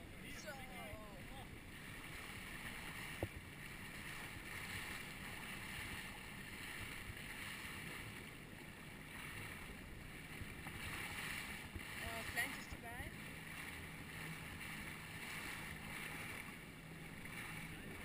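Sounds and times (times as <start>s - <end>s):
wind and sea noise: 0.0s - 18.0s.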